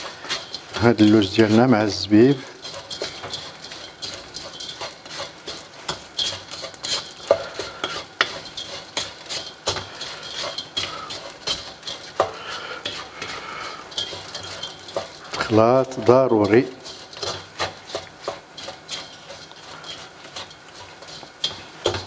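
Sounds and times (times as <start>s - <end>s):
wooden spatula scraping wok: 0.0s - 22.0s.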